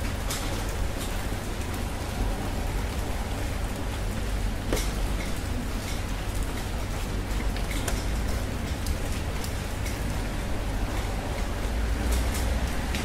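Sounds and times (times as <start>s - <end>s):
raindrop impacts: 0.0s - 13.0s
steady rain hiss: 0.0s - 13.0s.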